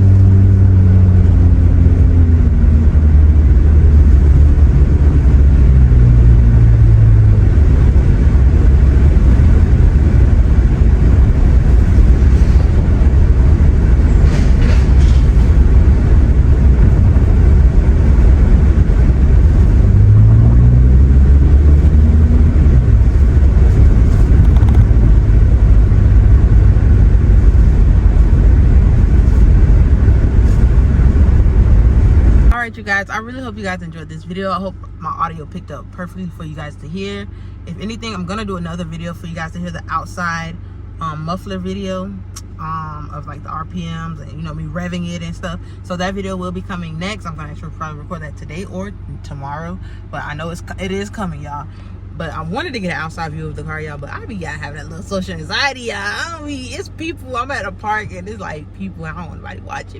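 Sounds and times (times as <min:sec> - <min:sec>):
car engine drone accelerating: 0:00.0 - 0:59.9.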